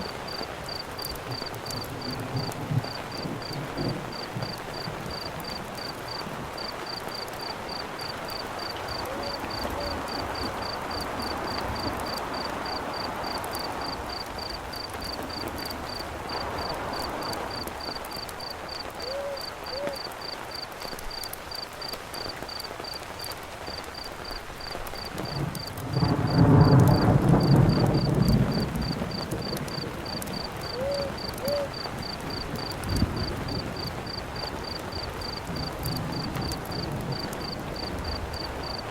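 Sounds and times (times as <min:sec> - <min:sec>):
thunder rumbling: 0:00.0 - 0:20.0, 0:24.9 - 0:38.9
campfire crackling: 0:00.0 - 0:38.9
cricket chirping: 0:00.0 - 0:38.9
rain falling: 0:00.0 - 0:38.9.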